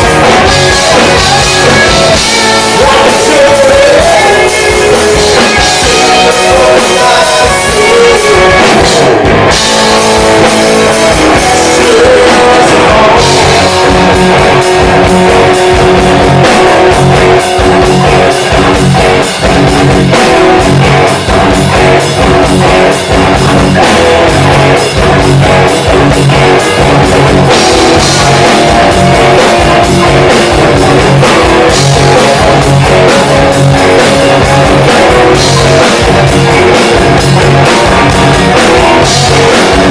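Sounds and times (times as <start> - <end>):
distorted electric guitar: 0.0 - 39.9
drum kit beat: 0.0 - 39.9.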